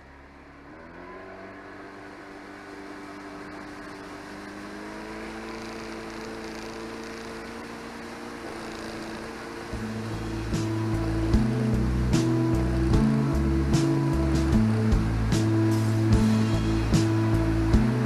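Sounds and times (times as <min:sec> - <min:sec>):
boat motor running: 0:00.0 - 0:18.0
wind and water hiss: 0:01.8 - 0:17.7.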